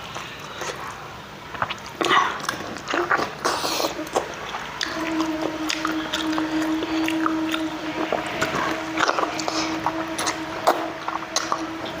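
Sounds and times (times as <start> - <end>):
steady hum: 0.0 - 12.0
wet chewing mouth sounds: 0.0 - 12.0.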